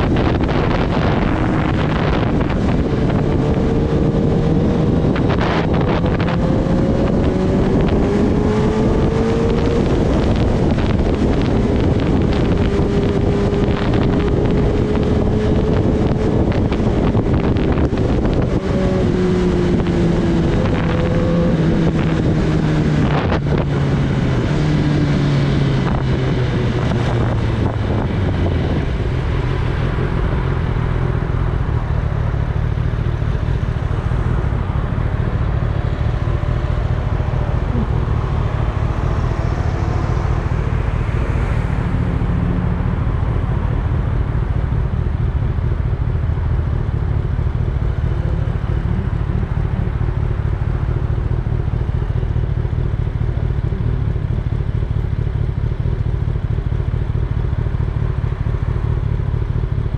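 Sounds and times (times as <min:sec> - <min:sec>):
wind rushing over microphone: 0:00.0 - 0:52.3
motorcycle engine slowing: 0:00.0 - 0:59.9.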